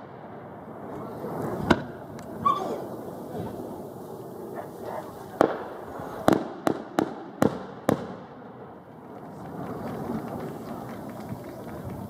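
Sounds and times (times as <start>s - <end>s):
crowd murmur: 0.0s - 12.0s
fireworks bangs: 0.0s - 12.0s.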